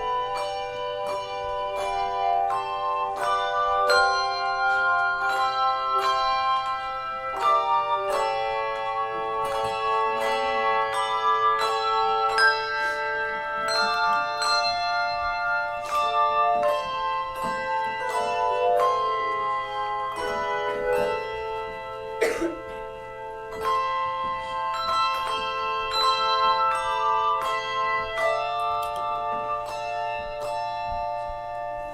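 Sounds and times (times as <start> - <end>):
handbell choir playing: 0.0 - 31.9.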